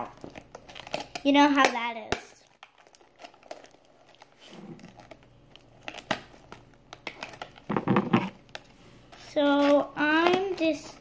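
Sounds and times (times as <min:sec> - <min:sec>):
plastic packaging crinkling: 0:00.0 - 0:01.4, 0:02.4 - 0:10.6.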